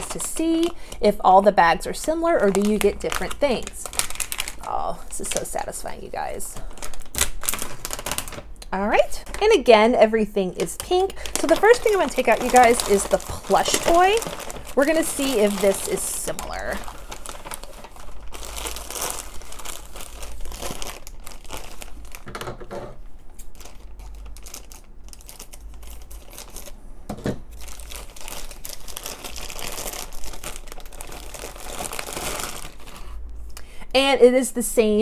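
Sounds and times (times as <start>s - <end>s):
plastic bag crinkling: 0.0s - 9.8s, 10.5s - 22.3s, 23.2s - 26.8s, 27.5s - 33.2s.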